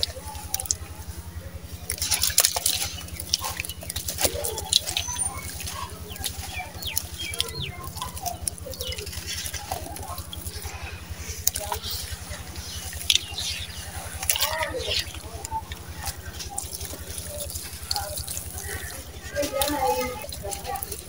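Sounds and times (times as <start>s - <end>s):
lumps splashing into water: 0.0s - 21.0s
steady low hum: 0.0s - 21.0s.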